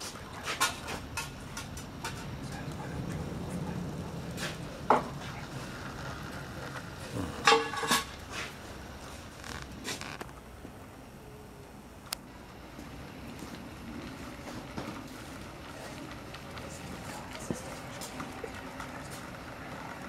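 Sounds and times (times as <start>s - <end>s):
model train humming on track: 0.0s - 20.0s.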